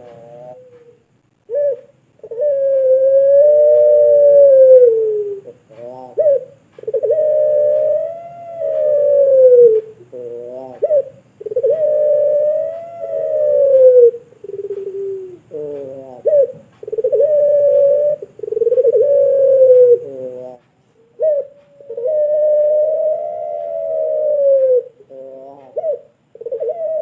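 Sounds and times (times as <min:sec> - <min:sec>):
dove cooing: 0:00.0 - 0:27.0.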